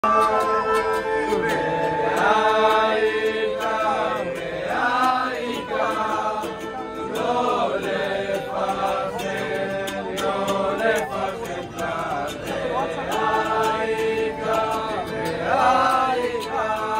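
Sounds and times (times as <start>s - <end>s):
men singing in unison: 0.0s - 16.9s
ukulele strumming: 0.0s - 16.9s.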